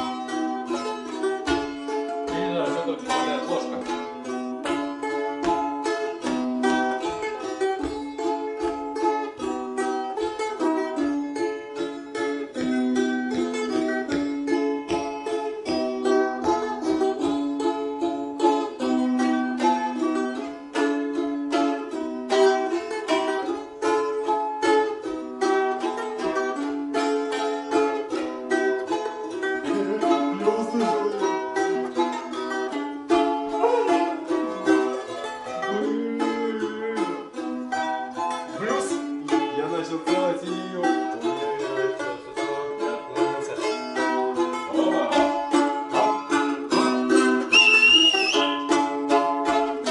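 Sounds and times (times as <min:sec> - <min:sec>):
balalaikas strumming and plucking: 0:00.0 - 0:49.9.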